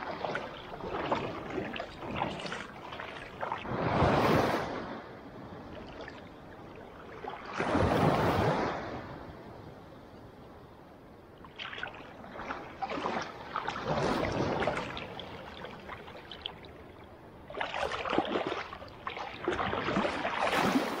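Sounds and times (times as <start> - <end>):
seawater splashing and sloshing: 0.0 - 9.2, 11.3 - 21.0
quiet water wash: 0.0 - 21.0.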